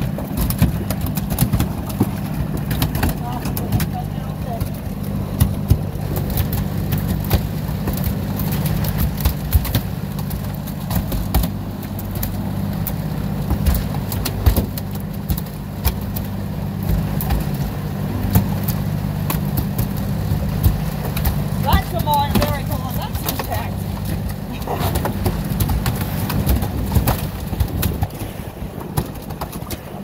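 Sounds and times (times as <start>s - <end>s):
boat engine running: 0.0s - 30.0s
sharp knocks and clicks: 0.0s - 30.0s.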